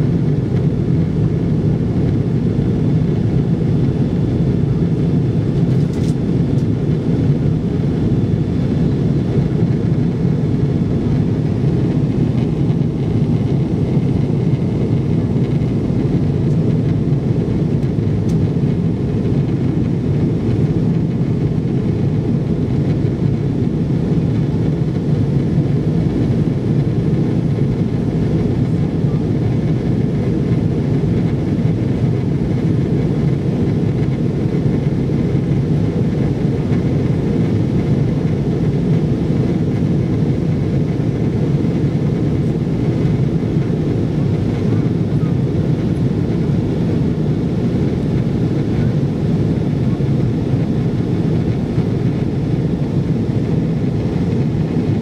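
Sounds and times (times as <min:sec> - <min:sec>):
airliner cabin jet engine roar: 0:00.0 - 0:55.0.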